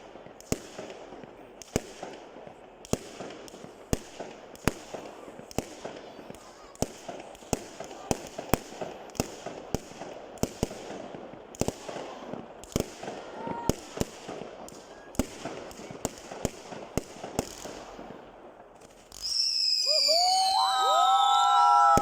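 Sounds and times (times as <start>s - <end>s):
whistling fireworks: 0.0s - 18.2s, 18.8s - 22.0s
fireworks banging and cracking: 0.0s - 22.0s.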